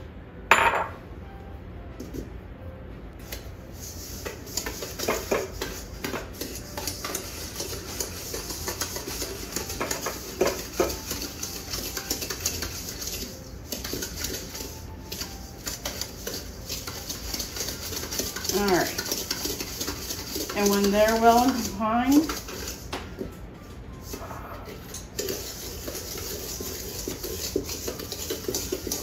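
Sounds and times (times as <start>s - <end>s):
whisk scraping metal bowl: 3.7s - 23.2s, 24.0s - 29.0s.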